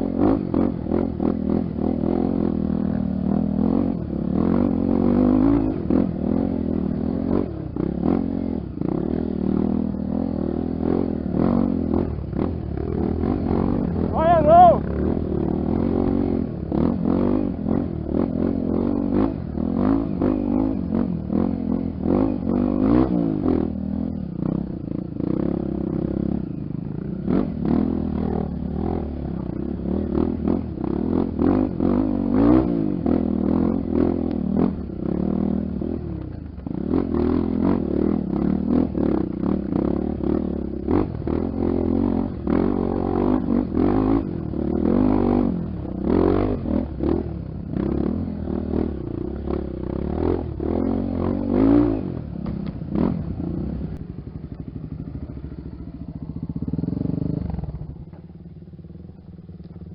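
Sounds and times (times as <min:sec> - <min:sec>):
trail bike engine: 0:00.0 - 0:59.9.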